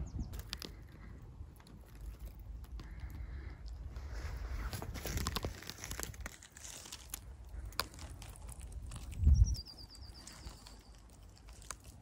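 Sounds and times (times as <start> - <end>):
dry twigs crackling: 0.3 - 12.0.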